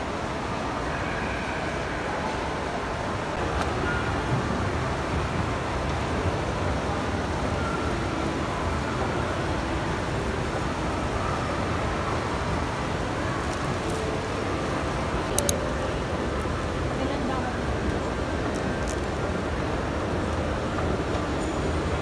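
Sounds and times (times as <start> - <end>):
moving walkway rumble and hiss: 0.0 - 22.0.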